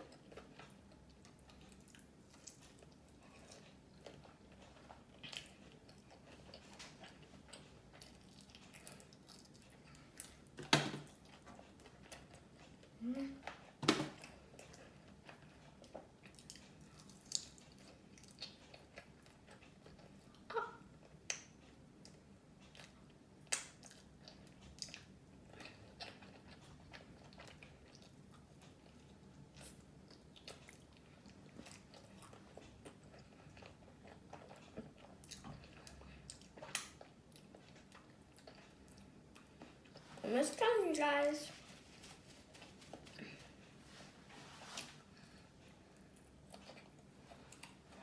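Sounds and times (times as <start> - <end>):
chewing fried food: 0.0 - 40.2, 41.6 - 48.0.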